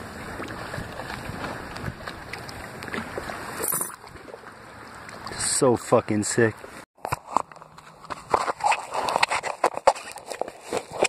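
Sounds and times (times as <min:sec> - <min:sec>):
water sloshing and splashing: 0:00.0 - 0:11.0
water swish: 0:00.0 - 0:11.0.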